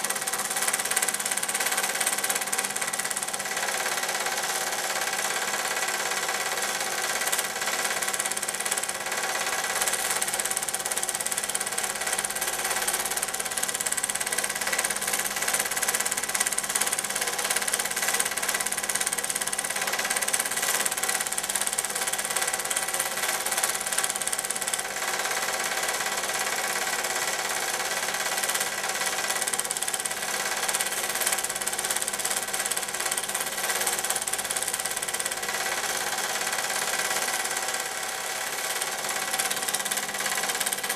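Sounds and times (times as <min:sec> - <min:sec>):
film projector whirring and clattering: 0:00.0 - 0:40.9.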